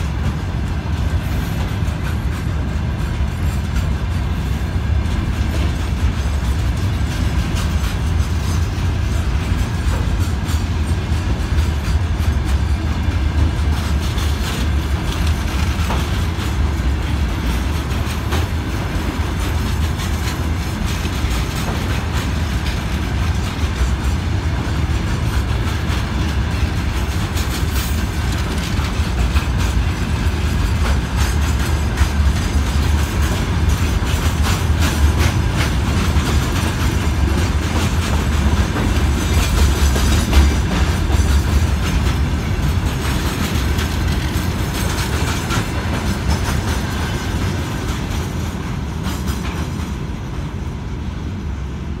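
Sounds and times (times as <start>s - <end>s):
wheels clattering over rail joints: 0.0s - 50.0s
freight train rumbling past: 0.0s - 52.0s.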